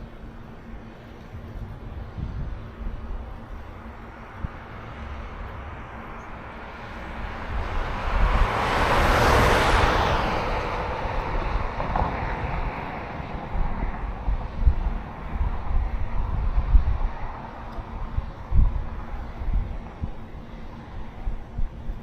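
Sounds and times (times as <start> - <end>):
wind rumble on microphone: 0.0 - 22.0
vehicle passing road noise: 0.6 - 21.1.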